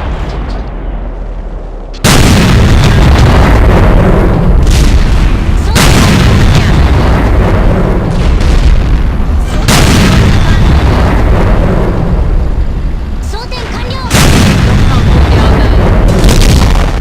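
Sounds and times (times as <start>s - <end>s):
loud booming blasts: 1.9s - 17.0s.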